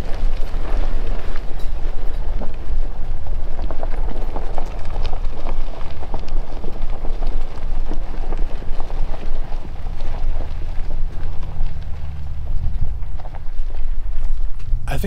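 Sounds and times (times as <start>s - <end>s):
tyres crunching over gravel: 0.0s - 14.8s
engine and road noise rumble: 0.0s - 15.0s.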